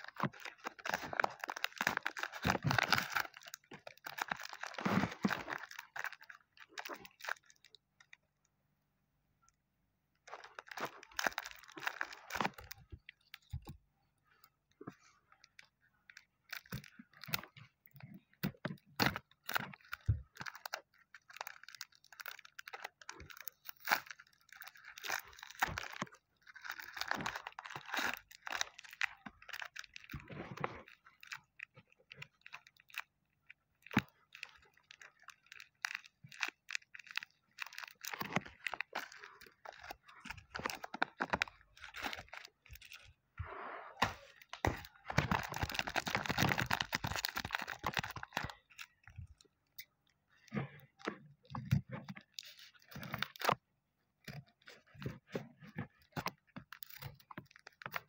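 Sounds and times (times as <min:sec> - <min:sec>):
plastic wrap and paper crinkling: 0:00.0 - 0:08.1, 0:10.3 - 0:43.2, 0:44.0 - 0:49.5, 0:50.3 - 0:53.6, 0:54.3 - 0:58.0.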